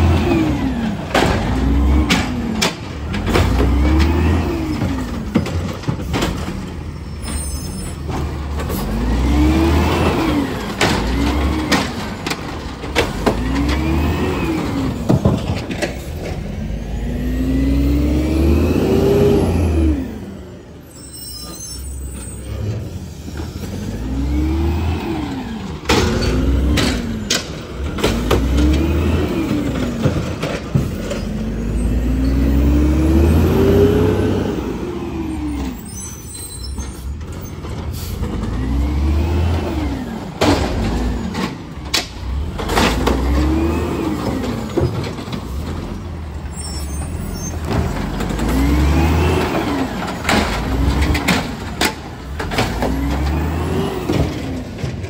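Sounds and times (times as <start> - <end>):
garbage truck engine revving: 0.0 - 55.0.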